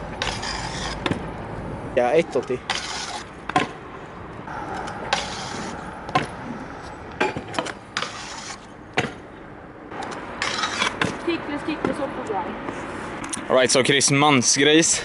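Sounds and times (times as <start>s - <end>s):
scooter wheels rolling on asphalt: 0.0s - 13.2s.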